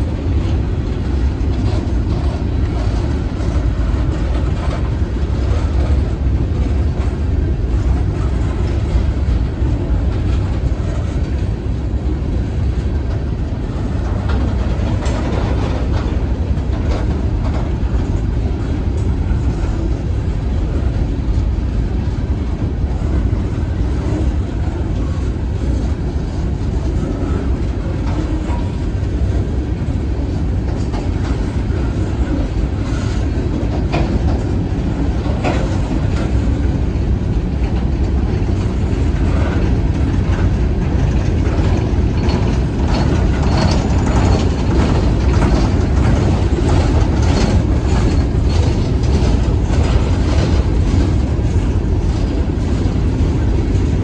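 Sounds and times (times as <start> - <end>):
train wheels rumbling: 0.0 - 54.0
wheels clicking on rail joints: 0.0 - 54.0.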